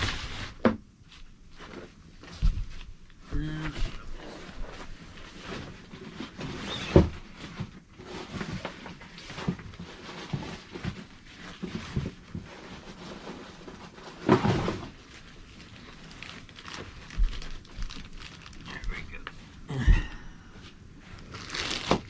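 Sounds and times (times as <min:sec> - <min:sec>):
rustling: 0:00.0 - 0:19.7, 0:20.3 - 0:22.0.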